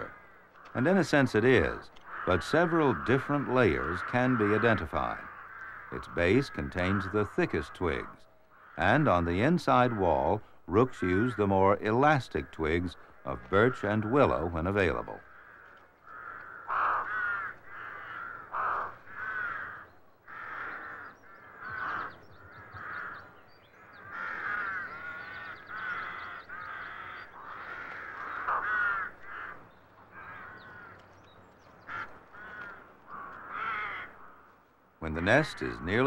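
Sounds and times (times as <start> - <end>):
rooks cawing: 0.0 - 36.0.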